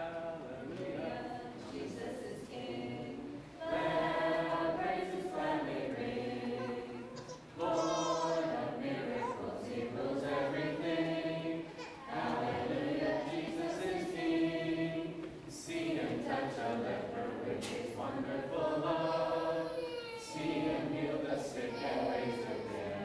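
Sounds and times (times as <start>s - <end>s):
children and adults singing: 0.0s - 23.0s.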